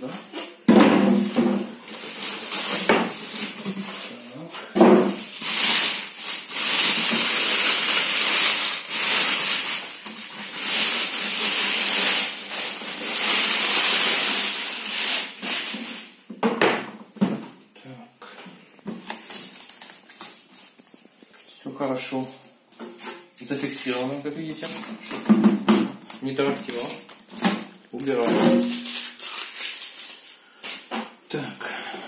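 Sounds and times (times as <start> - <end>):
plastic bag rustling: 0.2 - 16.2, 18.8 - 30.9.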